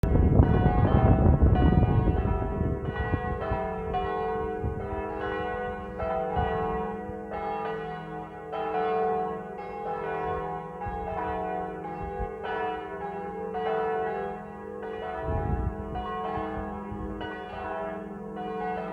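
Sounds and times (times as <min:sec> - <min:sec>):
church bells pealing: 0:00.0 - 0:18.9.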